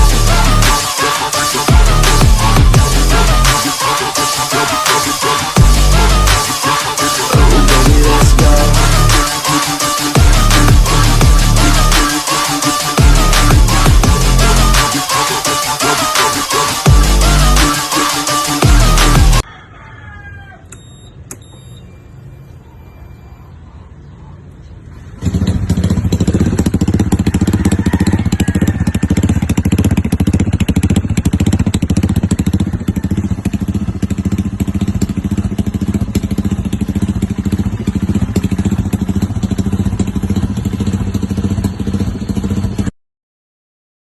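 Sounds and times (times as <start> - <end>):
scooter engine running: 0.0 - 19.4, 24.8 - 42.9.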